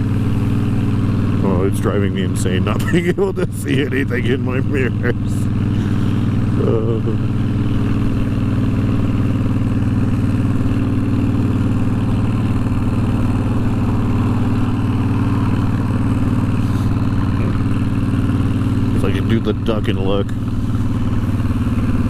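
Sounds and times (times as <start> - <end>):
motorcycle engine cruising: 0.0 - 22.0
wind and road noise: 0.0 - 22.0.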